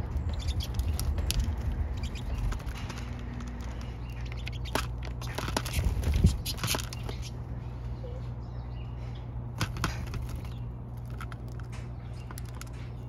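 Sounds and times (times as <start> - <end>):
birds twittering and clicking: 0.0 - 13.0
steady low rumble: 0.0 - 13.0.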